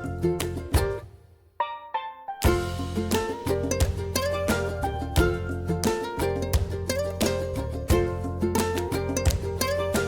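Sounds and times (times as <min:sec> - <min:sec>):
plucked string music over a beat: 0:00.0 - 0:10.0.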